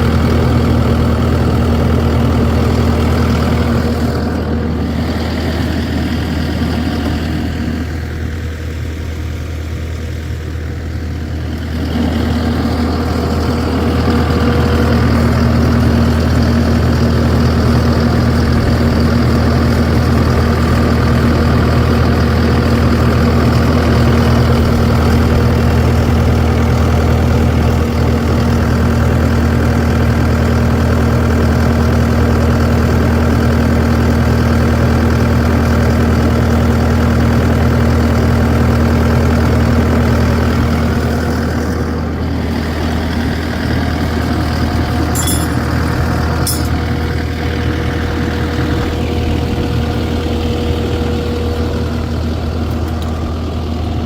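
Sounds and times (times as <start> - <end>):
large vehicle engine idling: 0.0 - 54.0.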